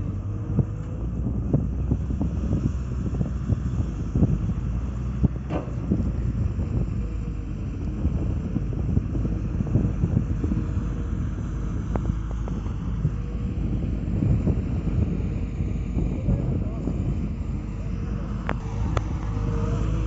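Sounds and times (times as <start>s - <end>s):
engine running: 0.0s - 20.0s
wind buffeting microphone: 0.0s - 20.0s.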